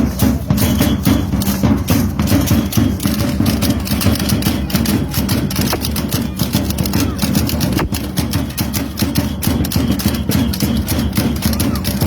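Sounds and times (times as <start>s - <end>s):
traditional drums and percussion: 0.0s - 12.0s.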